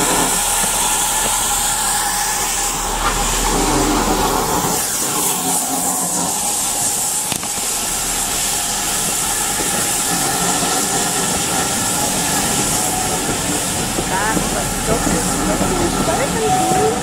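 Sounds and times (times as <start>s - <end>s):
steam hissing: 0.0s - 17.0s
train running: 0.0s - 17.0s.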